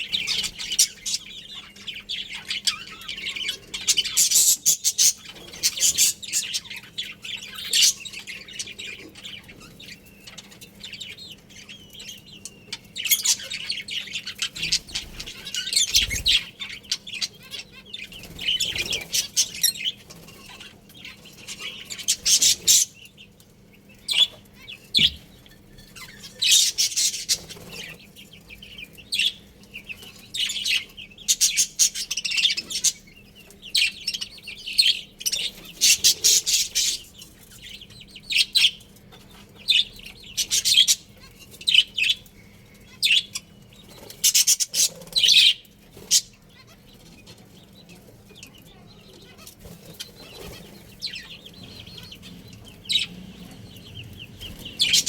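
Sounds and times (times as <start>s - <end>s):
budgies chirping and chattering: 0.0s - 55.0s.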